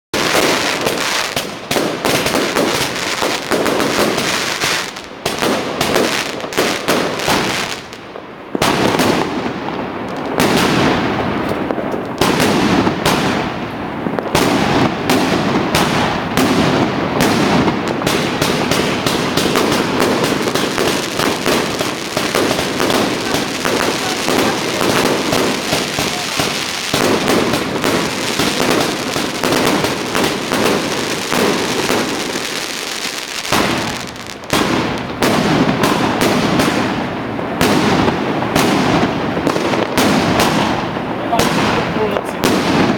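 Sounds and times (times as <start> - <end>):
fireworks and firecrackers bangs: 0.2 - 42.9.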